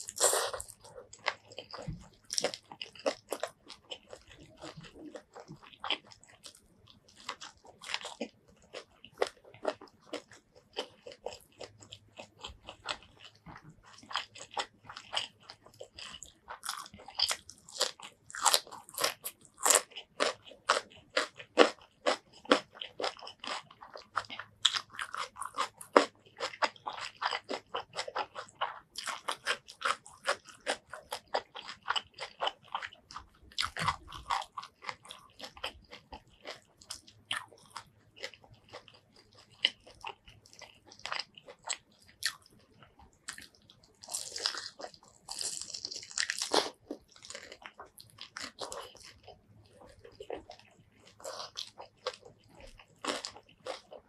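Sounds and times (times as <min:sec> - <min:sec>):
crunching fried chicken: 0:00.0 - 0:54.0.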